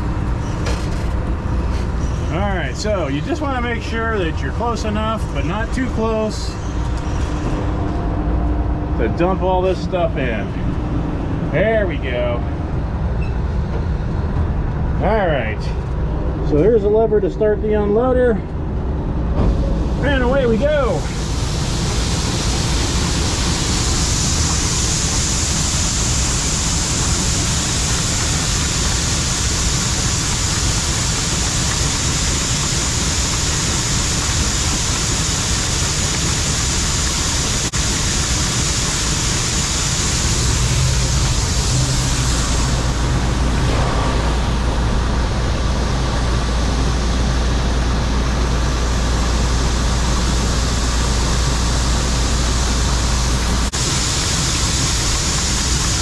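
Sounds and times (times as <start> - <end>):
combine harvester running: 0.0 - 56.0
deep steady hum: 1.2 - 56.0.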